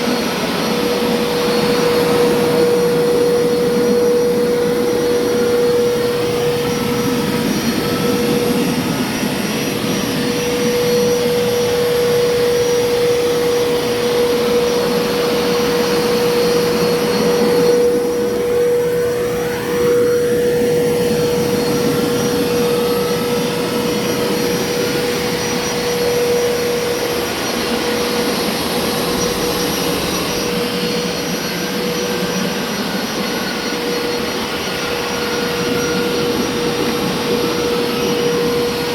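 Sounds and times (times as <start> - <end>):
carpet cleaner running: 0.0 - 38.9.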